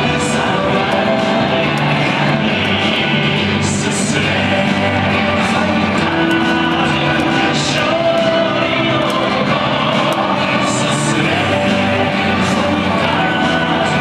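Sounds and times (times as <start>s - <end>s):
guitar: 0.0s - 14.0s
rock song with singing: 0.0s - 14.0s.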